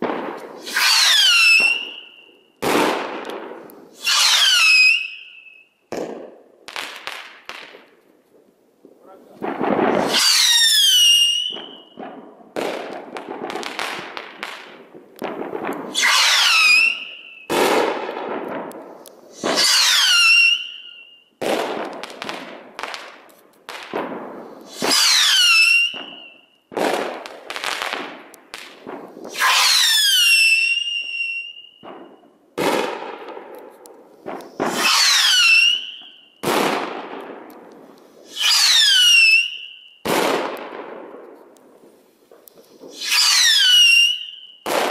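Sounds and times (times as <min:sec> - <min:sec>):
whistling rockets: 0:00.0 - 0:07.8, 0:09.5 - 0:18.5, 0:19.2 - 0:23.1, 0:23.7 - 0:33.5, 0:34.2 - 0:37.4, 0:38.0 - 0:41.1, 0:42.6 - 0:44.9
firework bangs and crackle: 0:00.0 - 0:44.9.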